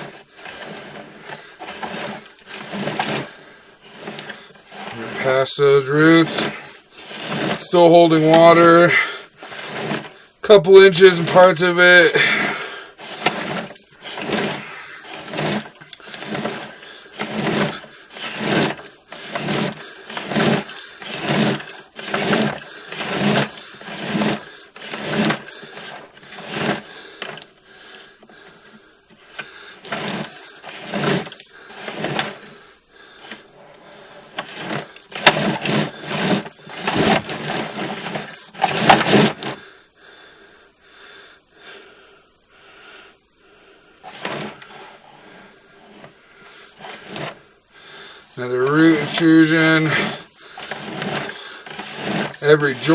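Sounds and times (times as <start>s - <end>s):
camera cable sliding rasp: 0.0s - 39.7s, 44.0s - 52.9s.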